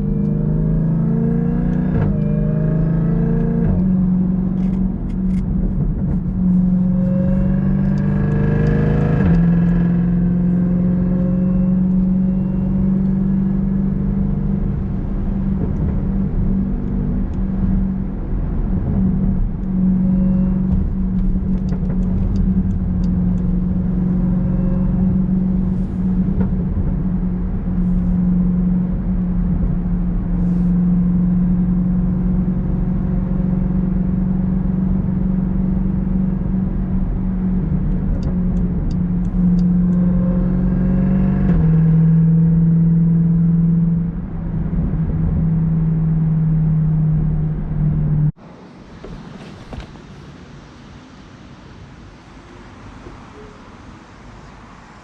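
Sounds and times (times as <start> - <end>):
car engine accelerating hard: 0.0 - 48.4.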